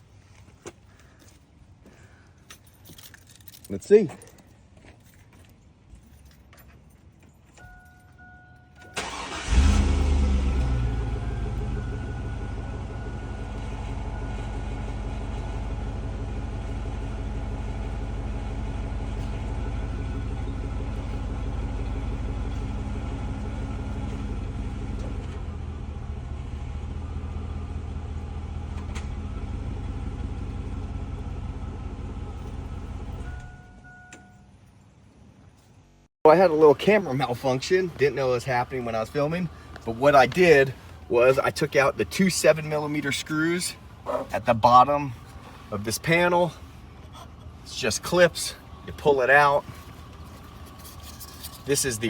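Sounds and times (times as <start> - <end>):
car engine starting and idling: 7.5 - 52.0.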